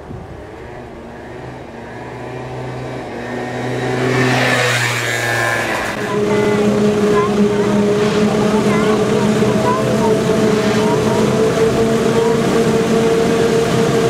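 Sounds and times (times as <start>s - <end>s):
different engine: 0.0s - 14.0s
tractor engine passing by: 0.0s - 14.0s.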